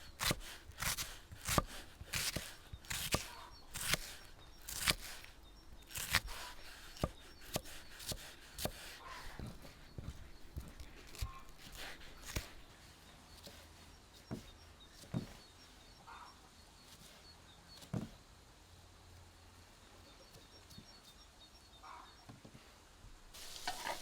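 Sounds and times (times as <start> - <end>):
faint birdsong chirps: 0.0 - 24.0.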